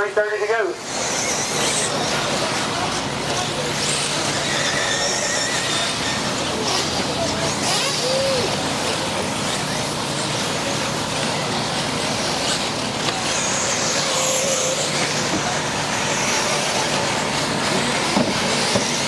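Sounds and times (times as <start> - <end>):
rc car motors whining: 0.4 - 19.0.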